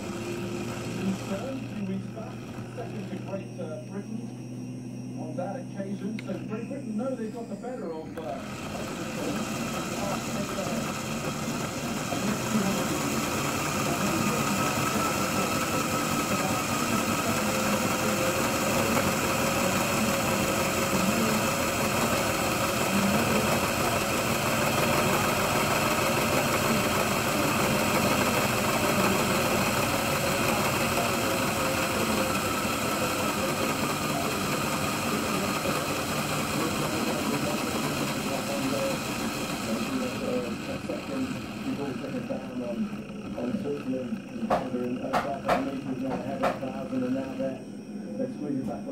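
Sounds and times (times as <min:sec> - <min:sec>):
model motor and gears whirring: 0:00.0 - 0:48.9.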